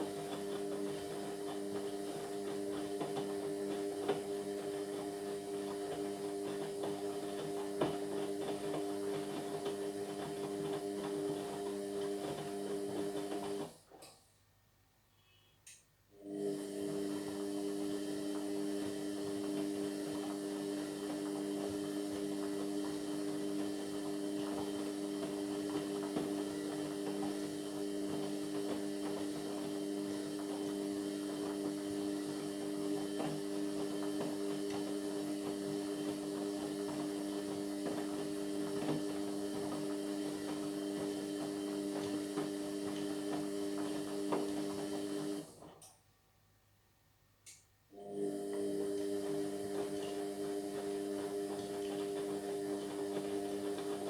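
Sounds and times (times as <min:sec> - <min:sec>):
washing machine humming: 0:00.0 - 0:14.0, 0:16.2 - 0:45.9, 0:47.9 - 0:54.0.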